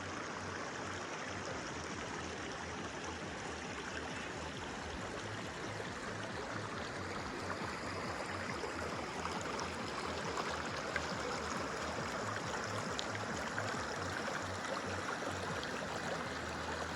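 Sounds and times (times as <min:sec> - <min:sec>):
stream water rushing: 0:00.0 - 0:16.9.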